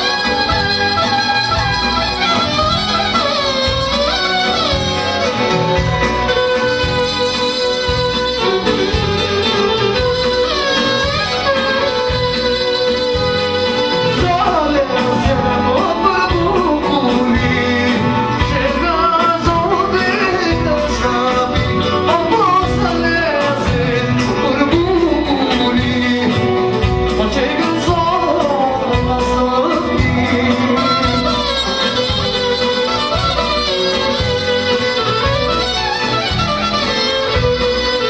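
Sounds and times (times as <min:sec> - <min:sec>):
person singing: 0:00.0 - 0:36.5
steady drum beat: 0:00.0 - 0:38.0.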